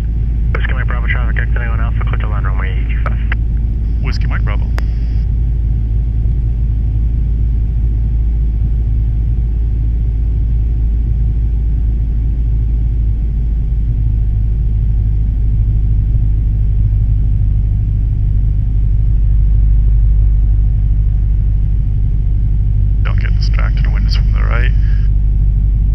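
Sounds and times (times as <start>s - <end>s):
propeller plane engine drone: 0.0s - 25.9s.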